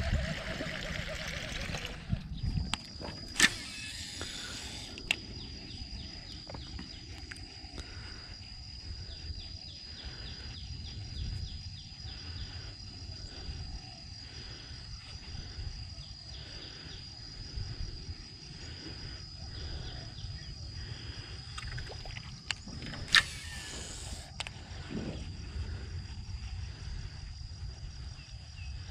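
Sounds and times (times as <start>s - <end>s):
wind rumble on microphone: 0.0s - 3.4s, 5.0s - 28.9s
steady high-pitched whine: 0.0s - 28.9s.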